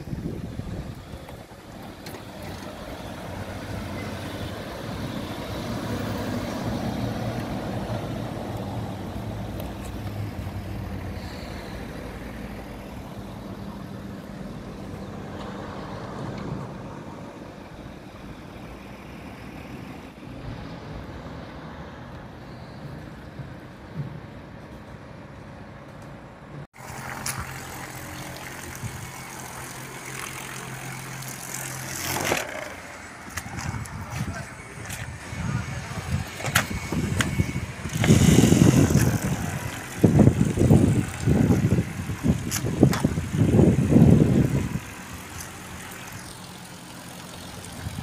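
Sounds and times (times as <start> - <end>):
heavy machinery engine drone: 0.0 - 48.0.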